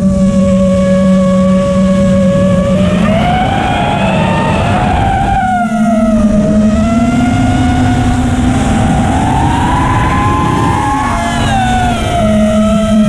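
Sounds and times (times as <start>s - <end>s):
quadcopter motors whining: 0.0s - 13.0s
wind and vibration rumble: 0.0s - 13.0s.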